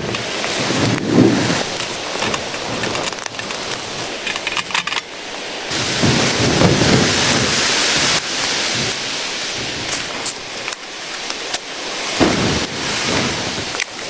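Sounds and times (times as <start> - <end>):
blizzard wind and blowing snow: 0.0 - 14.0.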